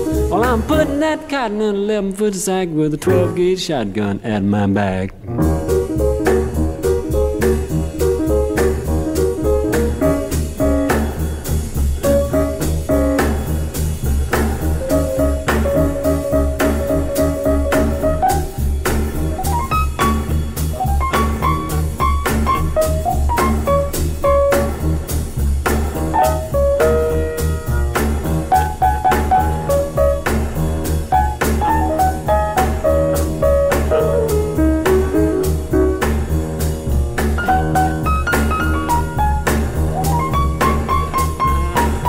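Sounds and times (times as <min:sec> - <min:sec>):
drums playing swing beat: 0:00.0 - 0:01.8, 0:02.9 - 0:03.8, 0:05.3 - 0:42.0
piano: 0:00.0 - 0:04.0, 0:05.1 - 0:42.0
double bass: 0:00.0 - 0:42.0.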